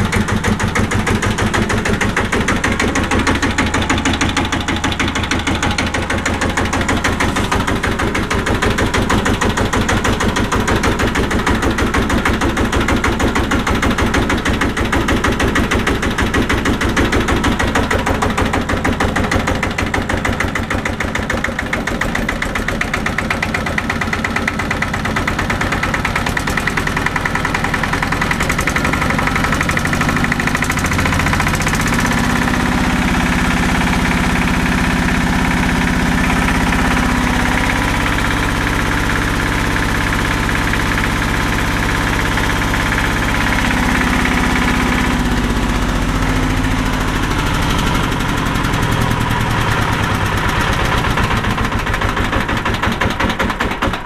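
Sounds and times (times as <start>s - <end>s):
single-cylinder diesel engine running: 0.0s - 54.0s.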